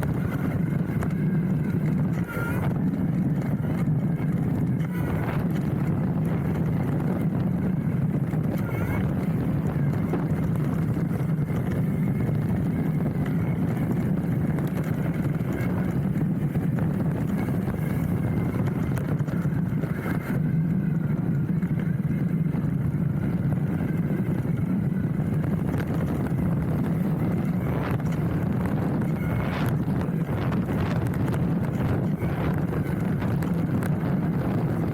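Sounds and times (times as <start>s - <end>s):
bike tyres rumbling on dirt: 0.0s - 34.9s
small rattles and clicks: 0.0s - 34.9s.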